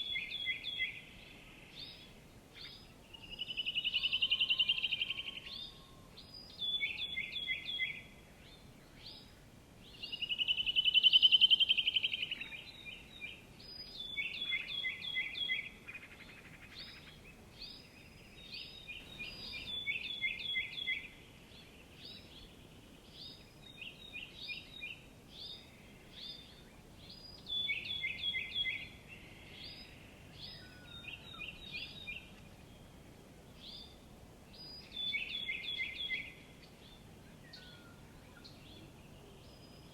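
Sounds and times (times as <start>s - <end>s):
faint outdoor background noise: 0.0s - 39.9s
songbird singing: 0.0s - 39.9s.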